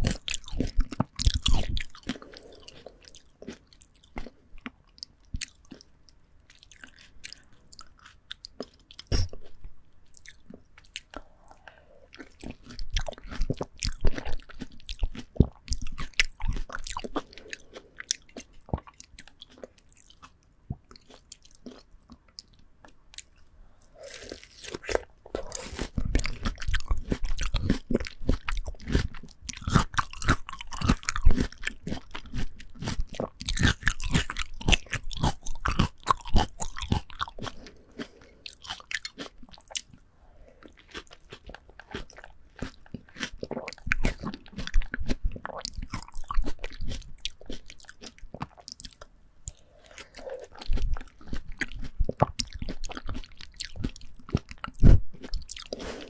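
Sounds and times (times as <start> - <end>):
wet crunching of melon chewing: 0.0 - 56.0.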